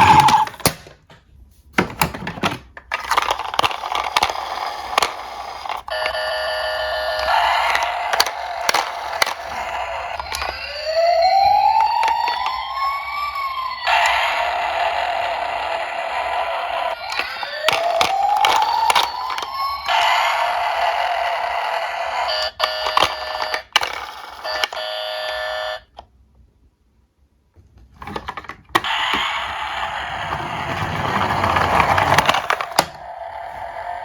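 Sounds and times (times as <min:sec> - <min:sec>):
toy electronic siren: 0:00.0 - 0:00.6, 0:03.1 - 0:26.0, 0:28.8 - 0:34.0.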